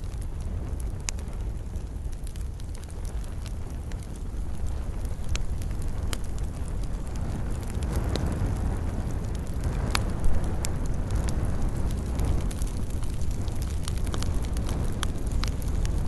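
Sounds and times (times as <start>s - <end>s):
low fire rumble: 0.0s - 16.0s
wood crackling and popping: 0.0s - 16.0s.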